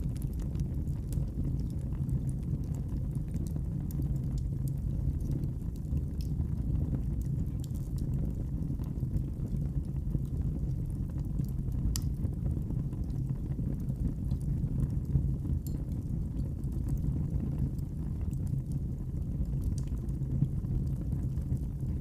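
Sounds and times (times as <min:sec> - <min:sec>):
fire popping: 0:00.0 - 0:22.0
wood fire crackling: 0:00.0 - 0:22.0.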